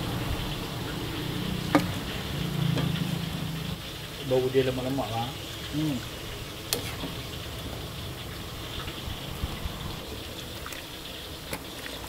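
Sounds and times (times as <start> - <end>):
curry simmering and bubbling: 0.0 - 12.0.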